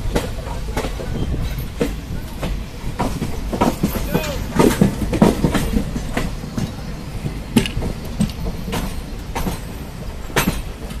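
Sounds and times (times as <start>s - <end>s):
train low rumble: 0.0s - 11.0s
train wheels clacking on rail joints: 0.0s - 11.0s.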